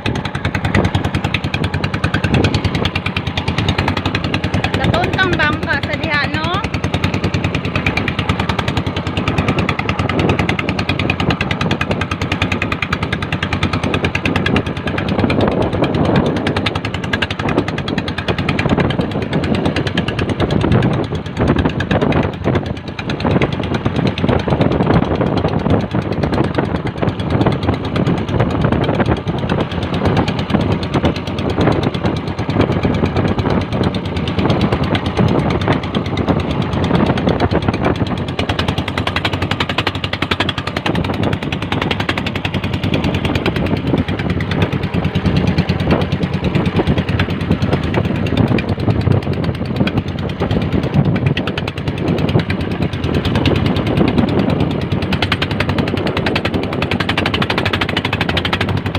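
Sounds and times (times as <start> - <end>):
boat engine pulsing: 0.0 - 58.9.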